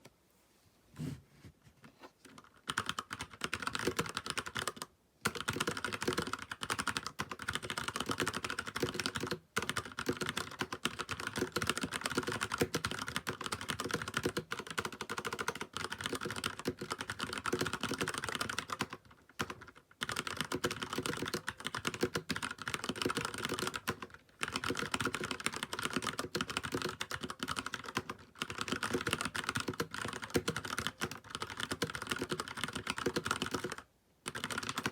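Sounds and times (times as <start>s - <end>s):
mechanical keyboard typing: 2.3s - 34.9s.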